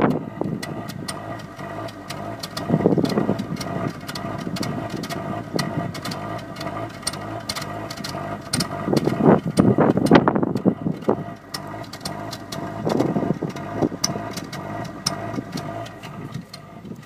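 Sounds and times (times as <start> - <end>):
car engine idling unevenly: 0.0 - 17.0.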